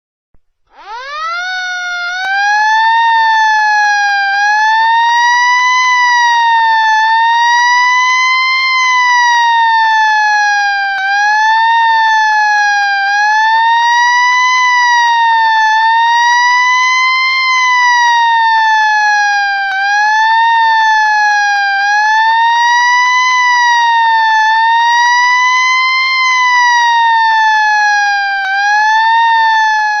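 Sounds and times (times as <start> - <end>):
fire engine siren wailing: 0.7 - 30.0.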